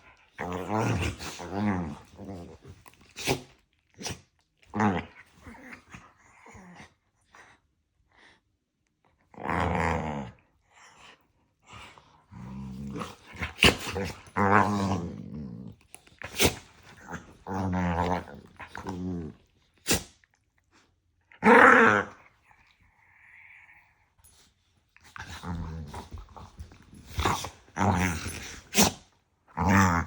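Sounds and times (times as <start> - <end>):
dogs growling and yapping: 0.0 - 7.4, 9.2 - 20.3, 21.2 - 24.4, 25.0 - 30.0.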